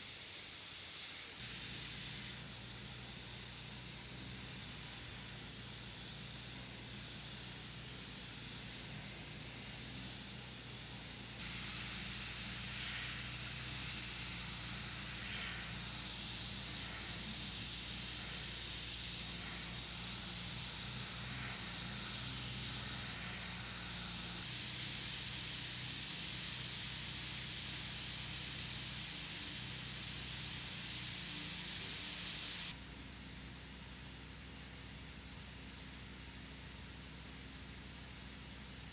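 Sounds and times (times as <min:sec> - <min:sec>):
airbrush spraying hiss: 0:00.0 - 0:38.9.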